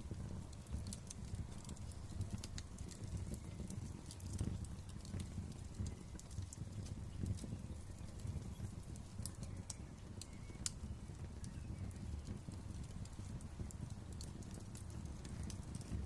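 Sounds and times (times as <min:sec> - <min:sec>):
wood fire crackling in a fireplace: 0:00.0 - 0:16.0.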